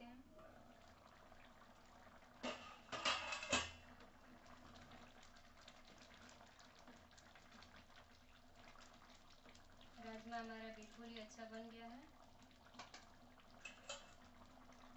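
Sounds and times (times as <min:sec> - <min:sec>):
curry bubbling with small pops: 0:00.1 - 0:14.9.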